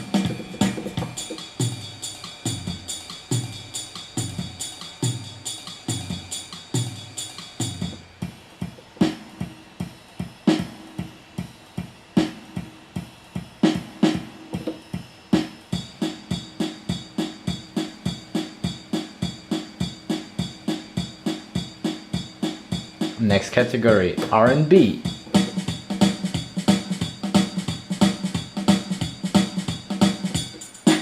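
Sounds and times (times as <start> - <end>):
keyboard drum rhythm pattern: 0.0 - 31.0.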